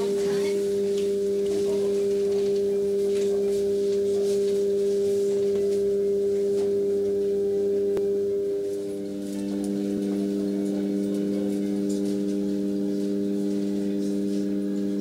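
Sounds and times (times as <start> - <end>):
drone of held pure tones: 0.0 - 15.0.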